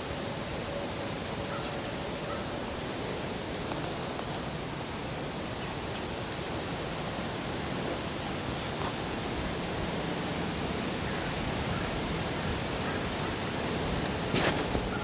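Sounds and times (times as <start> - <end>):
woodland ambience hiss: 0.0 - 15.0.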